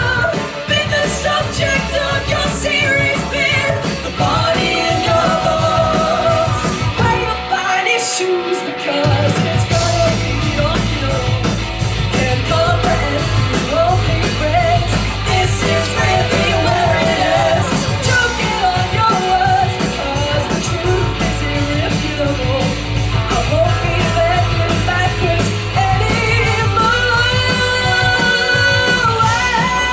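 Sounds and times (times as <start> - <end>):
bass and drums: 0.0 - 8.2, 9.0 - 29.9
electric guitar: 0.0 - 29.9
person singing: 0.0 - 29.9.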